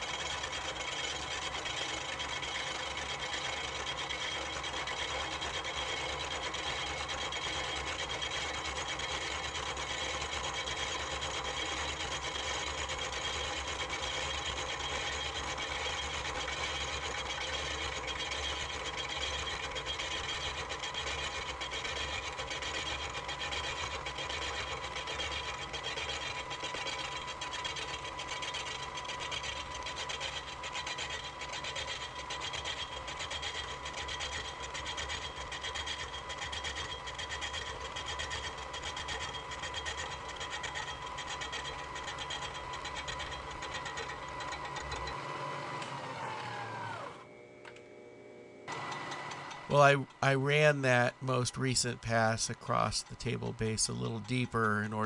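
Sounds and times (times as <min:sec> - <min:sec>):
milling machine whine: 0:00.0 - 0:55.0.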